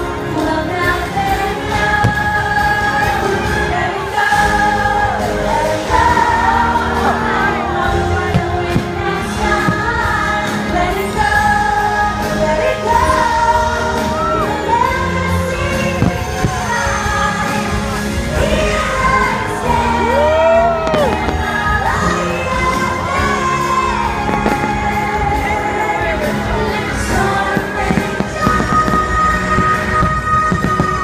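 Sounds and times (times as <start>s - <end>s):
music with singing: 0.0s - 31.0s.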